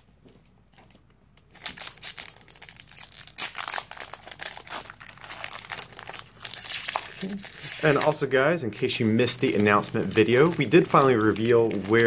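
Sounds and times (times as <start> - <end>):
foil wrapper crinkling and tearing: 1.4 - 12.0.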